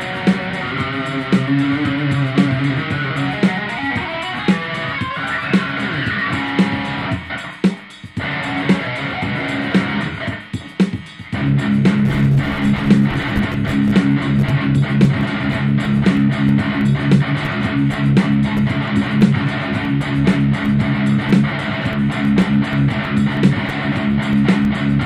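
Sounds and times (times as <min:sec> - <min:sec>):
guitar music with steady beat: 0:00.0 - 0:25.0.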